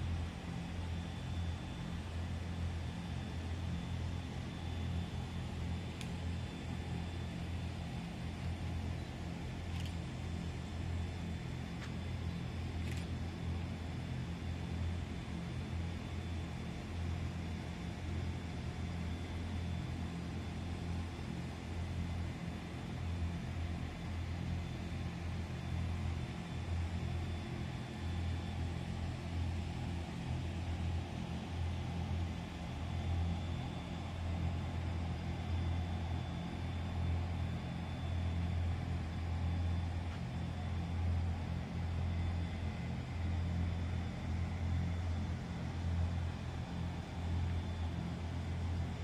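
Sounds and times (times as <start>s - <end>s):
faint high whine: 0.0s - 49.0s
machinery fans and motors humming: 0.0s - 49.0s.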